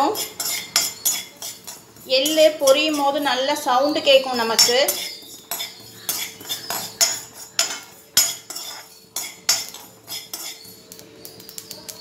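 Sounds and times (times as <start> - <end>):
metal spoon scraping a pan: 0.0 - 11.7
seeds popping in a pan: 0.0 - 12.0.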